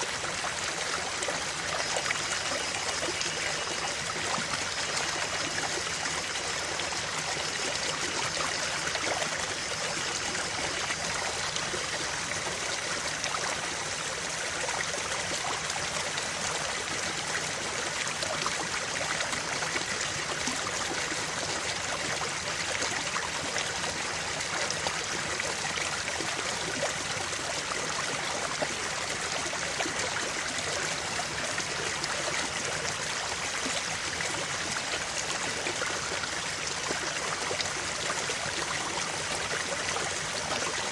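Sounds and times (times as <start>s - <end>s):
creek water trickling over stones: 0.0s - 40.9s.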